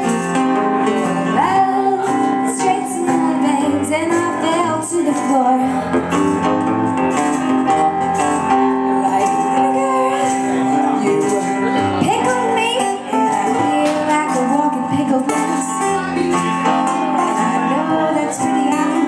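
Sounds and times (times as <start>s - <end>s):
acoustic guitar: 0.0s - 19.0s
digital piano: 0.0s - 19.0s
woman singing: 0.8s - 6.2s, 7.7s - 16.0s, 16.9s - 19.0s.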